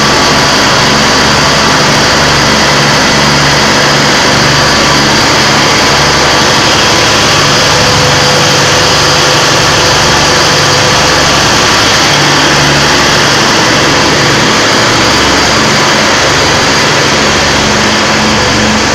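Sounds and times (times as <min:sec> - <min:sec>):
engine running loudly: 0:00.0 - 0:18.9.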